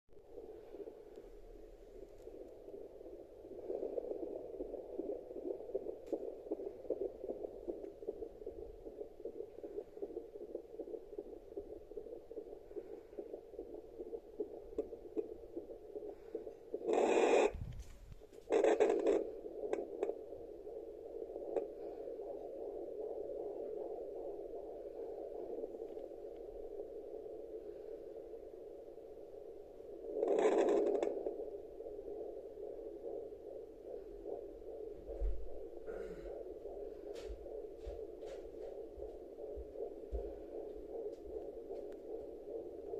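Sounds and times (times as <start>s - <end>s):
whooshing fetal heartbeat pulse: 0.2s - 42.9s.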